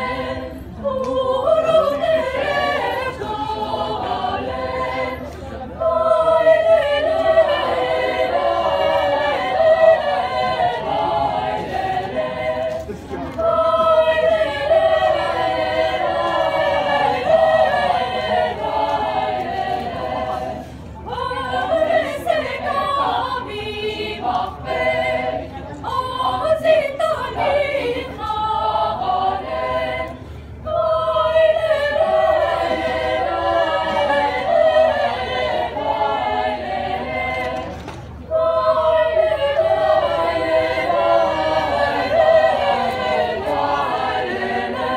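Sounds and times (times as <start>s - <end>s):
choir singing a cappella: 0.0s - 44.9s.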